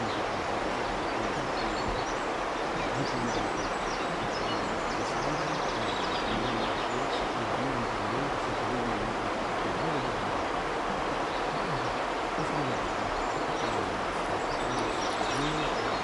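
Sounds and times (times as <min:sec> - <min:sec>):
river water rushing: 0:00.0 - 0:16.0
small birds chirping: 0:00.0 - 0:16.0.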